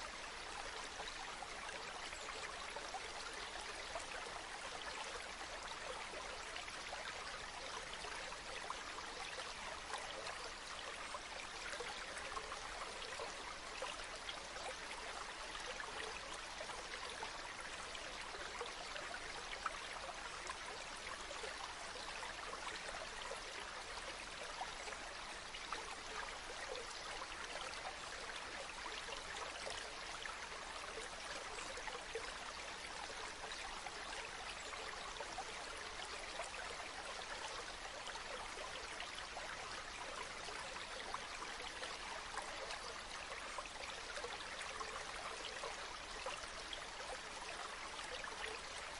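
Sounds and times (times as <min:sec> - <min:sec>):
small stream flowing: 0:00.0 - 0:48.9.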